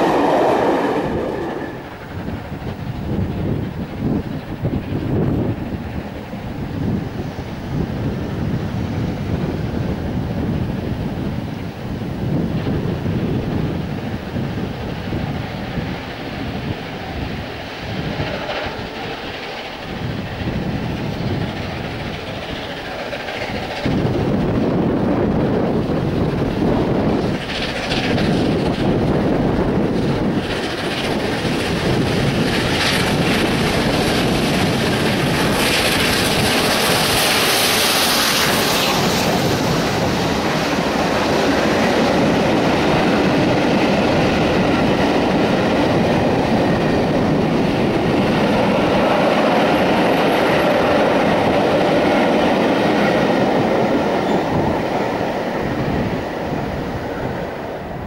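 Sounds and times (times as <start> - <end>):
steam locomotive working hard: 0.0 - 58.0
train wheels clickety-clack: 0.0 - 58.0.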